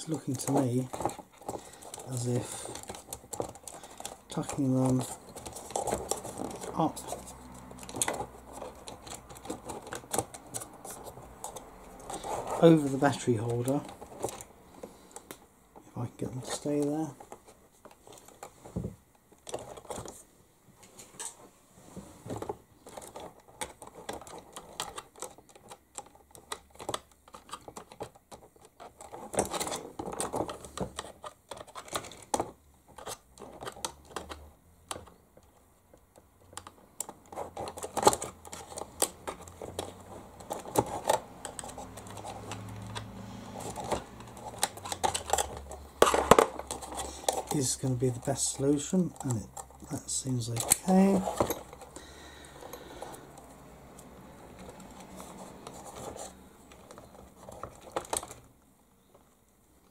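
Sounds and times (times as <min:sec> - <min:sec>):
hands handling plastic toy truck: 0:00.0 - 0:59.9.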